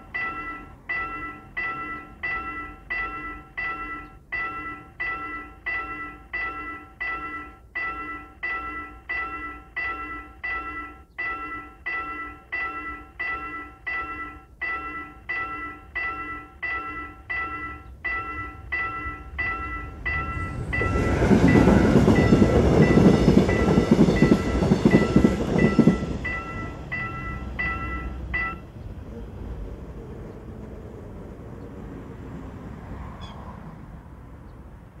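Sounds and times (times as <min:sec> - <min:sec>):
railroad crossing bell dinging: 0:00.0 - 0:28.9
train rumble and wheel clatter: 0:00.0 - 0:35.0.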